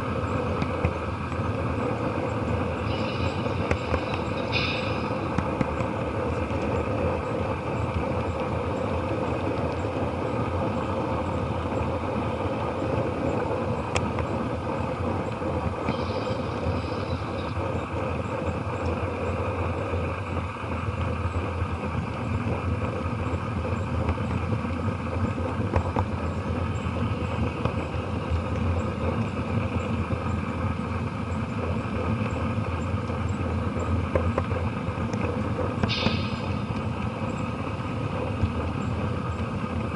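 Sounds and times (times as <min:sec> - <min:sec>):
model train rolling rumble: 0:00.0 - 0:39.9.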